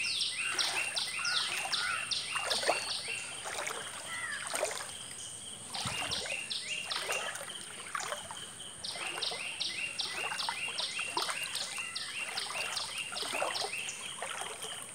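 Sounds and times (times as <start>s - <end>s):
footsteps splashing through water: 0.0s - 14.9s.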